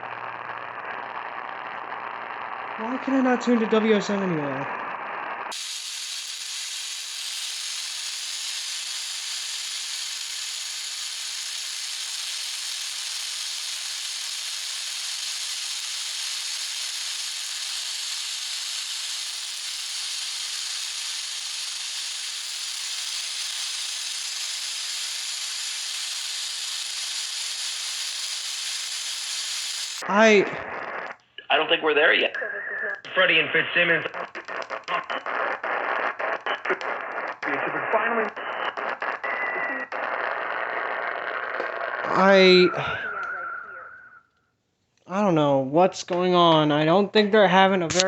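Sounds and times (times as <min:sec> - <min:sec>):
radio static hiss: 0:00.0 - 0:44.2.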